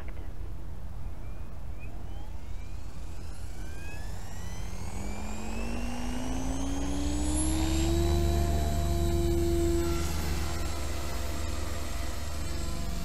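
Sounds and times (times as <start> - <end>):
model helicopter rotor whine: 1.7 - 13.0.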